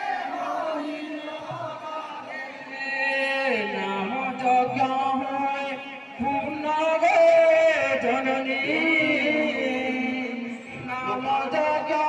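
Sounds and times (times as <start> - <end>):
group singing a devotional chant: 0.0 - 12.0.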